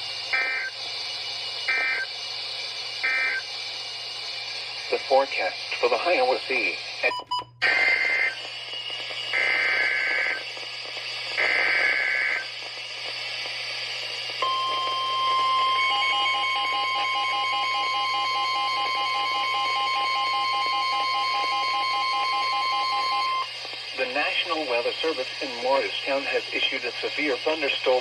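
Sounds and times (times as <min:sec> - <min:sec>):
steady warning alarm tone: 0:00.0 - 0:28.0
screeching digital bursts: 0:00.3 - 0:02.2, 0:02.9 - 0:03.5, 0:04.3 - 0:12.6, 0:14.4 - 0:28.0.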